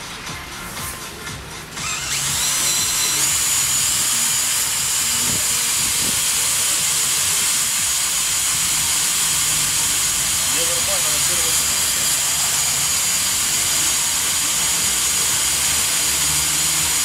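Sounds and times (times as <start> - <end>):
cordless drill boring into log: 1.8 - 17.0.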